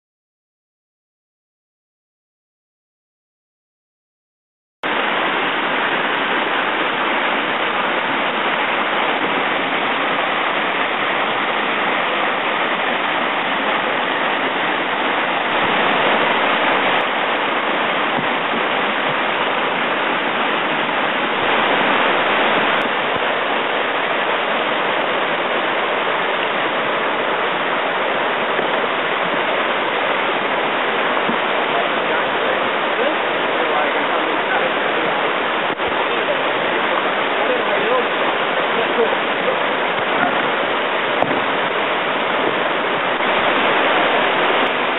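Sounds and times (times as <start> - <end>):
water rushing over rocks: 4.8 - 44.9.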